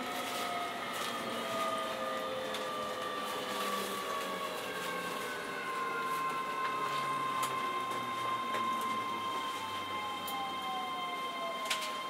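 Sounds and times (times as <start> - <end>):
electric train motor whine: 0.0 - 12.0
train running rumble: 0.0 - 12.0.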